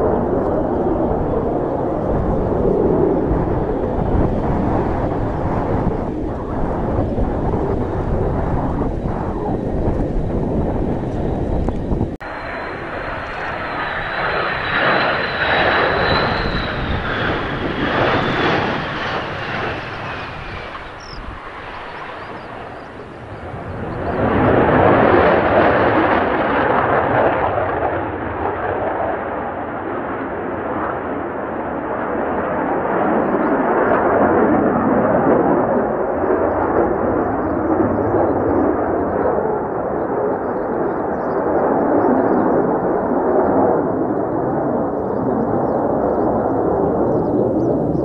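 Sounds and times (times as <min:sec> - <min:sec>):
wind buffeting microphone: 0:00.0 - 0:29.2, 0:31.5 - 0:48.0
jet fighter engine whine: 0:00.0 - 0:48.0.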